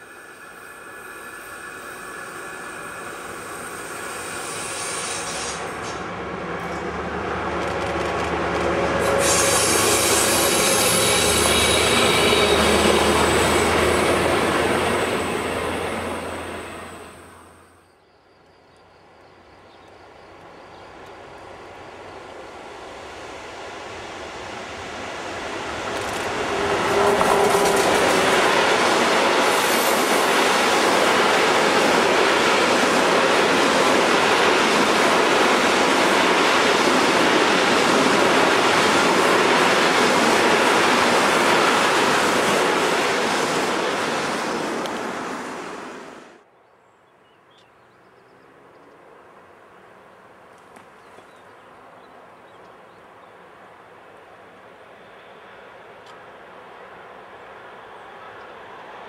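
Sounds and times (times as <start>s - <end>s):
freight train passing: 0.0s - 46.5s, 51.3s - 59.0s.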